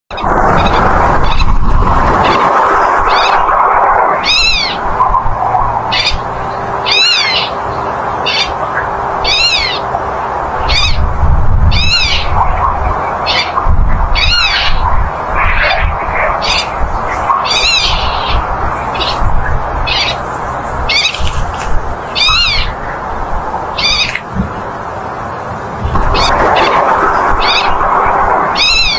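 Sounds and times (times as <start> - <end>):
wading birds calling: 0.1 - 28.9
steady low rumble: 0.2 - 28.9.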